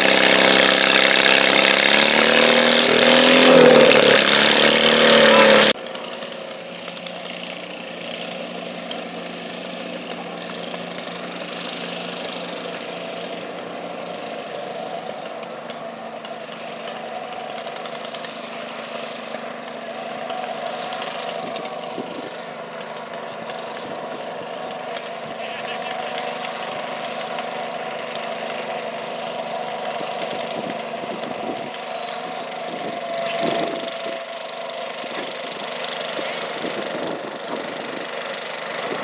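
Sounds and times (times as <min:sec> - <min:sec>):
garden tractor engine running: 0:00.0 - 0:39.0.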